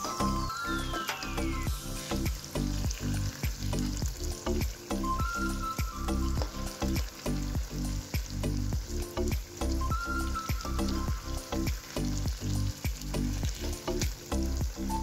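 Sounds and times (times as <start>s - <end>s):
background music with steady beat: 0.0s - 15.0s
oil sizzling and crackling in a wok: 0.0s - 15.0s.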